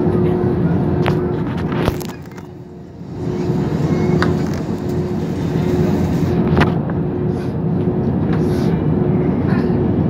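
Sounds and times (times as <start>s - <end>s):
airliner engine and cabin drone: 0.0s - 10.0s.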